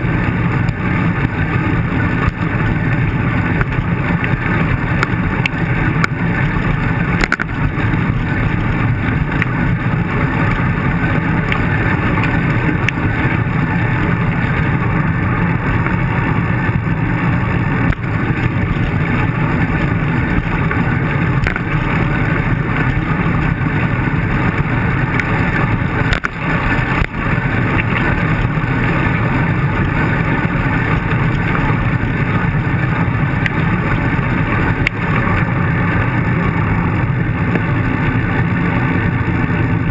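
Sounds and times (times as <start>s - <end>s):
bicycle rolling over rough pavement: 0.0s - 39.9s
wind buffeting microphone: 0.0s - 39.9s.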